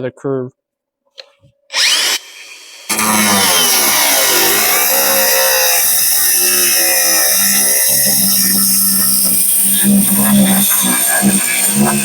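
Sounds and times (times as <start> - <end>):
cut-off wheel cutting sheet steel: 1.7 - 12.0.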